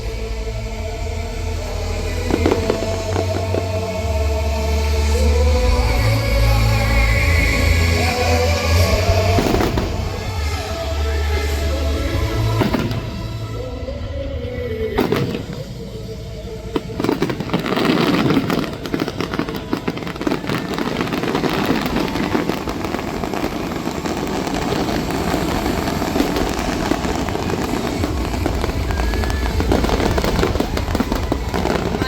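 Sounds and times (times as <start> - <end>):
fireworks bangs and crackle: 1.8 - 32.0.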